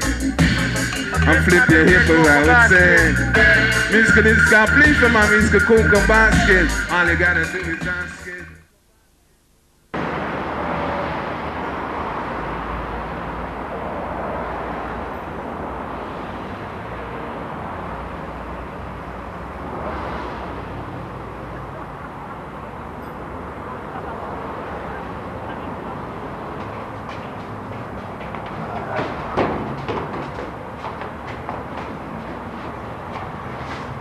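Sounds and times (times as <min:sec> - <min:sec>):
vehicles rumbling: 0:00.0 - 0:08.2, 0:10.0 - 0:34.0.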